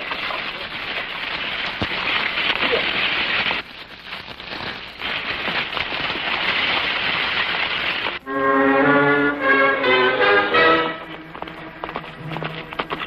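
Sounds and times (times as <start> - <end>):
wheels and hooves crunching gravel: 0.0 - 8.2, 9.0 - 13.0.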